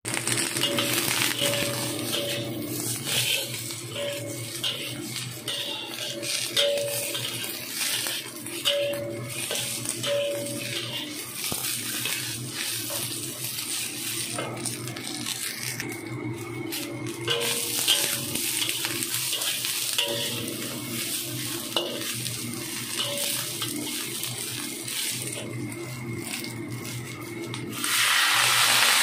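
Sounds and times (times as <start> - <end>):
vegetables sizzling in a wok: 0.0 - 29.0
metal spatula scraping a pan: 0.2 - 29.0.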